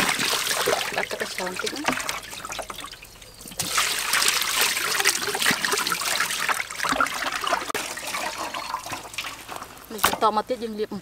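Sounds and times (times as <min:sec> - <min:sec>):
water splashing and trickling: 0:00.0 - 0:10.5.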